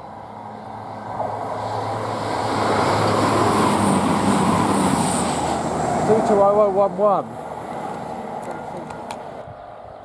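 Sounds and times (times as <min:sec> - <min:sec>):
train wheels and air rushing: 0:00.0 - 0:09.4
diesel engines droning: 0:00.0 - 0:10.0.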